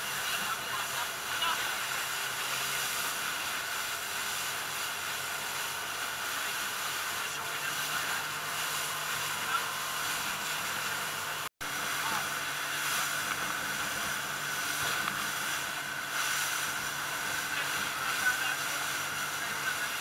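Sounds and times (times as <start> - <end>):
motorboat engine drone: 0.0 - 20.0
water rushing and spray: 0.0 - 20.0.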